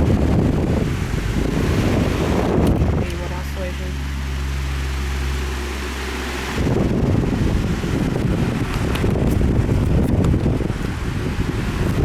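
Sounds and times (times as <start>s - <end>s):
fan motor humming: 0.0s - 12.0s
wind buffeting microphone: 0.0s - 12.0s.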